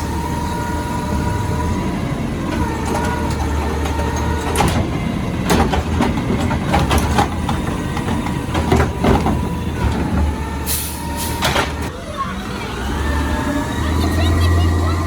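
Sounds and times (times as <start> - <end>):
garbage truck engine rumbling: 0.0 - 15.0.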